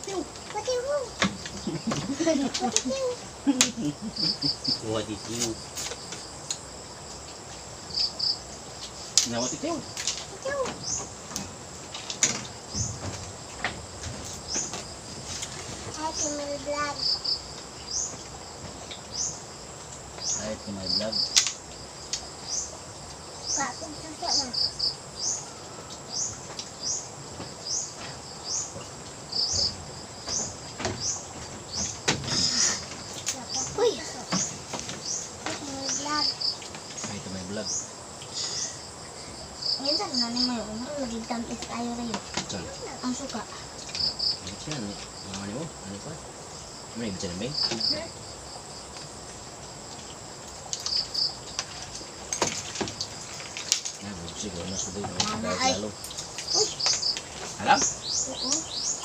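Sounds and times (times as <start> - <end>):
insect chirping: 0.0 - 59.0.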